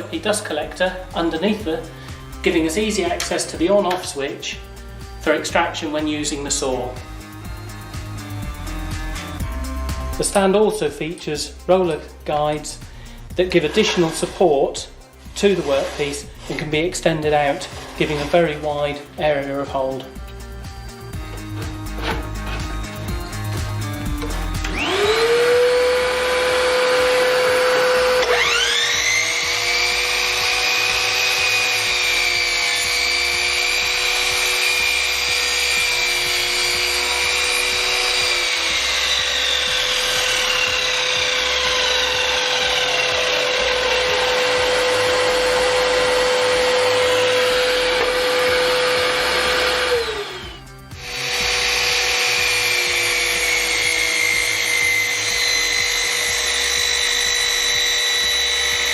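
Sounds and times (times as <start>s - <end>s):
saw blade cutting timber: 10.1s - 20.2s, 21.2s - 58.9s
saw motor whining: 11.2s - 58.9s.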